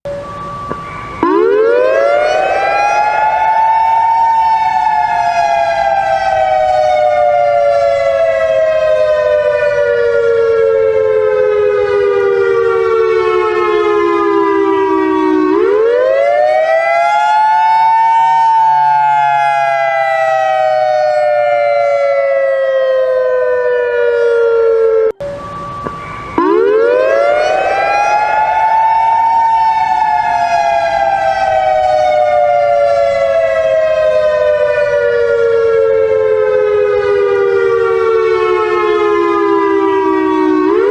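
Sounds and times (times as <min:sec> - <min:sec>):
civil defense siren wailing: 0:00.0 - 0:40.9.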